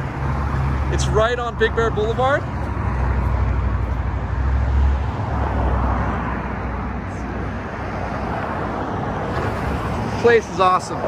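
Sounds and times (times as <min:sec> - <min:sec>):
deep traffic rumble: 0:00.0 - 0:11.0
passing cars rushing: 0:00.0 - 0:11.0.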